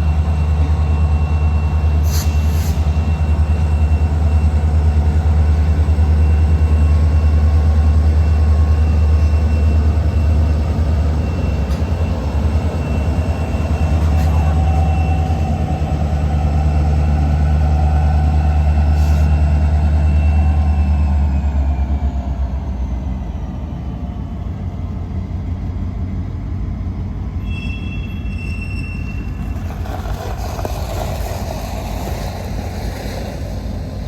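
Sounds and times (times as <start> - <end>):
locomotive diesel engines droning: 0.0 - 34.0.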